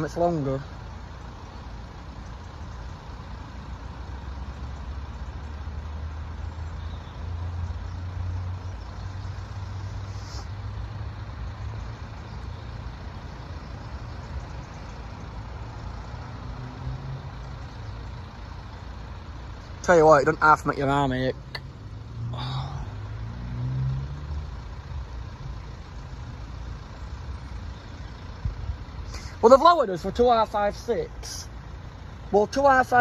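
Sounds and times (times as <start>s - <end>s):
vehicle engines idling: 0.0s - 33.0s.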